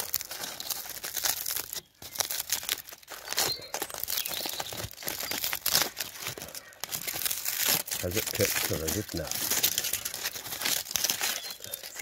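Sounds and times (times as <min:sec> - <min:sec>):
foil crinkling and tearing: 0:00.0 - 0:12.0.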